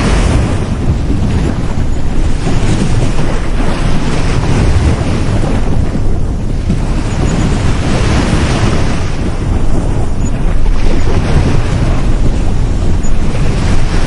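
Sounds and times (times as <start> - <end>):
sea waves breaking on beach: 0.0 - 14.0
wind buffeting microphone: 0.0 - 14.0.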